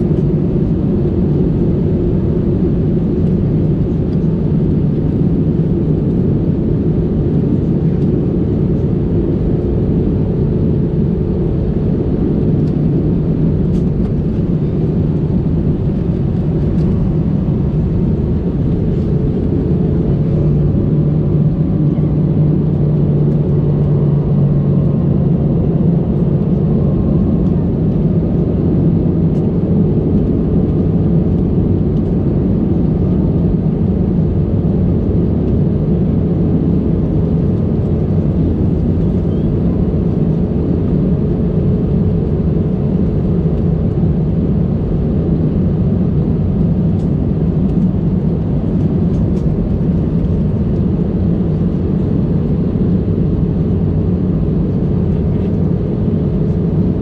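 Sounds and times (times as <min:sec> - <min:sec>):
aircraft engine drone: 0:00.0 - 0:57.0
low hum: 0:00.0 - 0:57.0.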